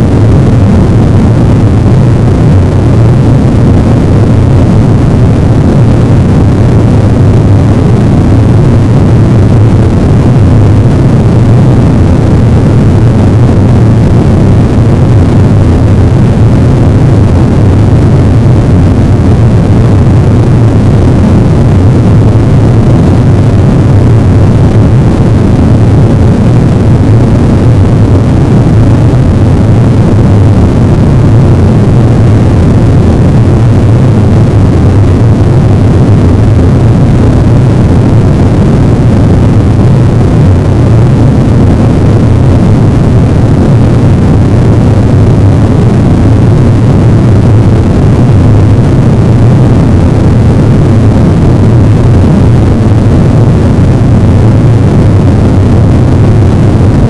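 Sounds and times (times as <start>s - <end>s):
harsh noise wall: 0.0s - 57.0s.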